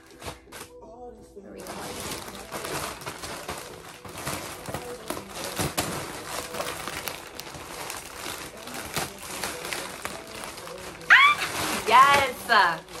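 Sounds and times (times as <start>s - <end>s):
plastic mailer bag crinkling: 0.0s - 0.8s, 1.5s - 13.0s.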